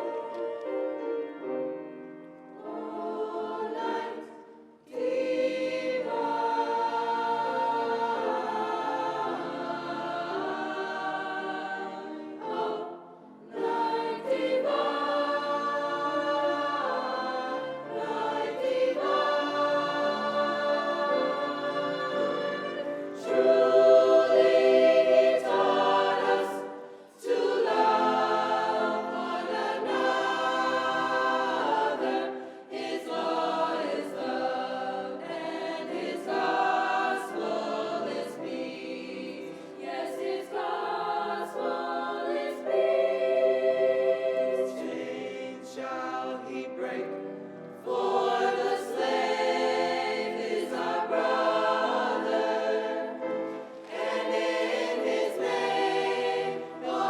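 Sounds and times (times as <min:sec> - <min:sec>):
school choir singing: 0:00.0 - 0:57.0.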